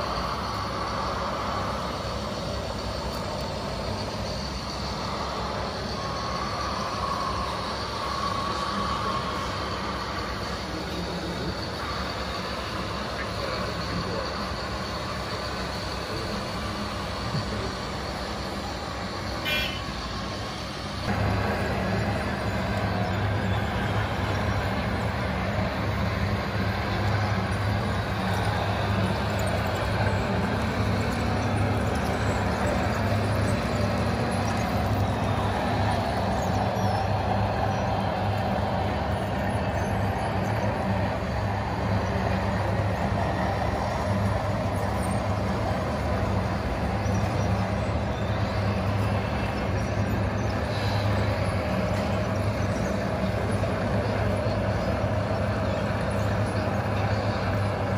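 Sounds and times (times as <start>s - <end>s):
simulated diesel engine sound: 0.0s - 57.9s.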